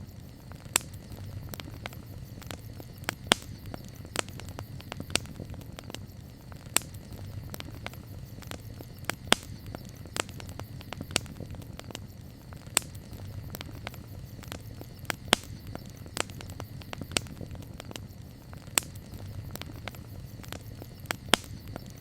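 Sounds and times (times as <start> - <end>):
campfire crackling and popping: 0.0 - 22.0
low rumble of fire: 0.0 - 22.0.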